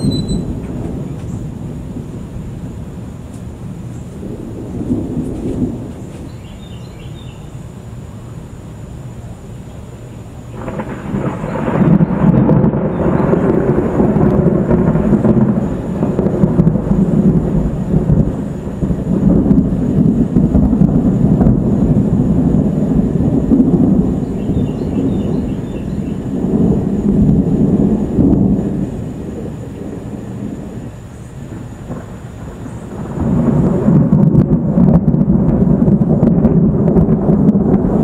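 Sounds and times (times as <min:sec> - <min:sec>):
thunder rolling: 0:00.0 - 0:07.3, 0:10.4 - 0:38.0.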